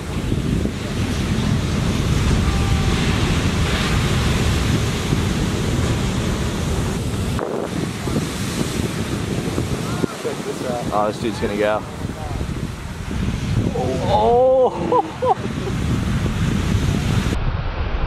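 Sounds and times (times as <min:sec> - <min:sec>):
surf crashing and washing: 0:00.0 - 0:17.4
wind buffeting microphone: 0:00.0 - 0:17.5.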